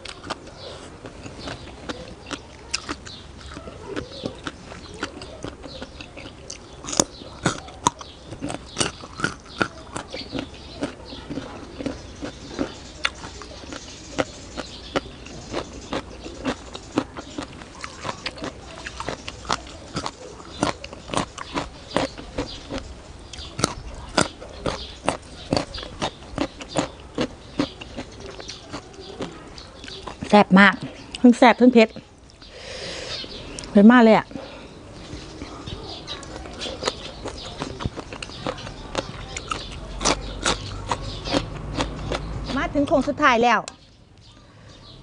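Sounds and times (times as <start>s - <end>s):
crunching and chewing carrot: 0.0s - 45.0s.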